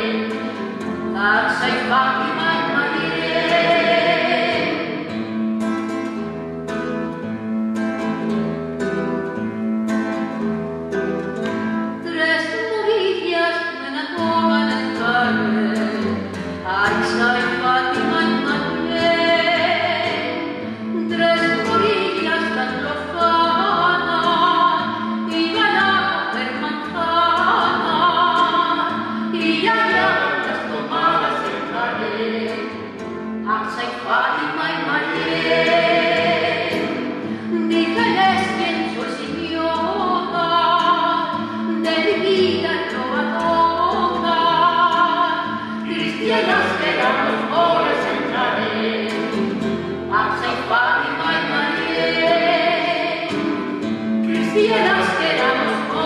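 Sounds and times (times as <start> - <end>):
woman singing with vibrato: 0.0 - 5.2, 12.0 - 32.8, 33.4 - 53.6, 54.2 - 56.0
classical guitar: 0.0 - 56.0.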